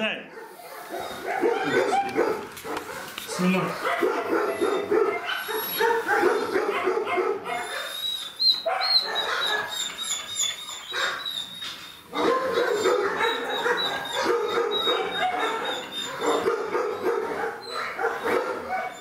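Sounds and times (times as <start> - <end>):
dogs barking and yelping: 0.2 - 19.0.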